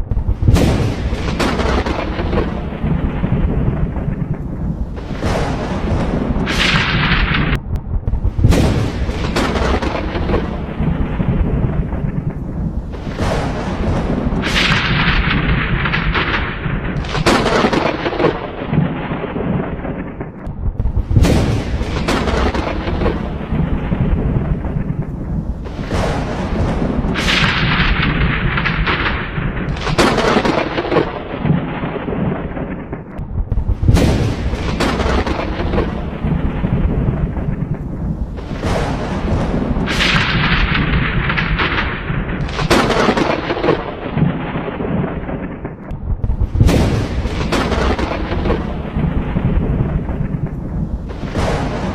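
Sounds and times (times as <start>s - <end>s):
thunder rumbling and cracking: 0.0s - 51.9s.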